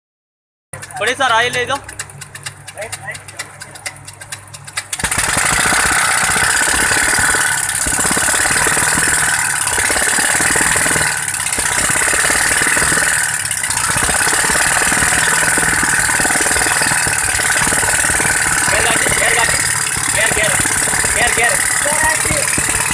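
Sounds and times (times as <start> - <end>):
compressed-air engine clattering: 0.8 - 22.9.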